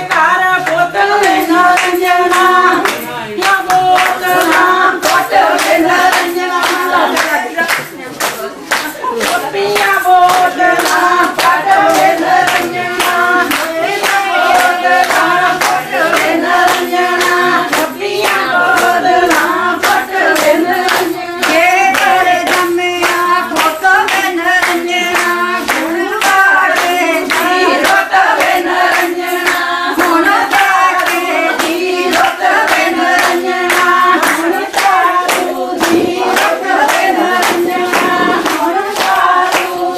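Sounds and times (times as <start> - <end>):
rhythmic hand clapping: 0.0 - 39.9
women singing together: 0.0 - 39.9.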